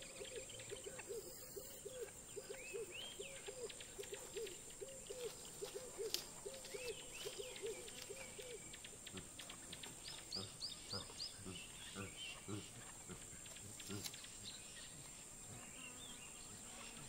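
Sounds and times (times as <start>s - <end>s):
low hooting animal call: 0.0s - 14.2s.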